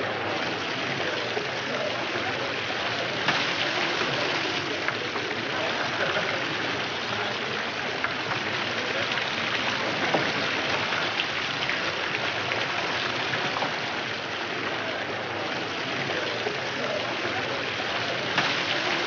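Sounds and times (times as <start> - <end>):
large crowd noise: 0.0 - 19.0.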